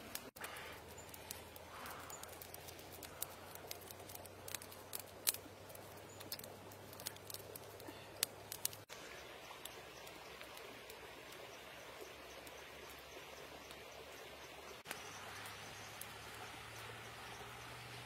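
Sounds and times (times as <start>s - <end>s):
sharp pops and ticks: 0.0s - 13.9s, 14.8s - 16.9s
fire crackling: 0.0s - 18.0s.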